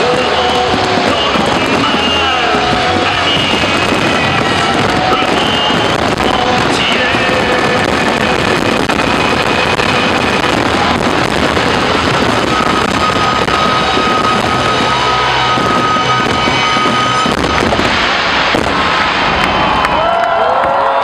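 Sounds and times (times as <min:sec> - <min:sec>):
steady tone: 0:00.0 - 0:19.9
fireworks bursting and crackling: 0:00.0 - 0:21.0.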